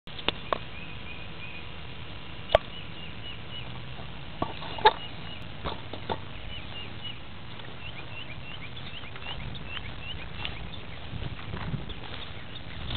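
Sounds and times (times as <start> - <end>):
small birds chirping: 0.1 - 12.9
steady low hum: 0.1 - 12.9.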